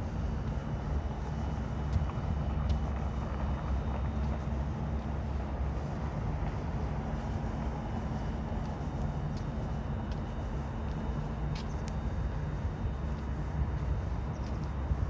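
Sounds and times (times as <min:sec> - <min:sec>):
low mechanical drone: 0:00.0 - 0:15.0
noisy background: 0:00.0 - 0:15.0.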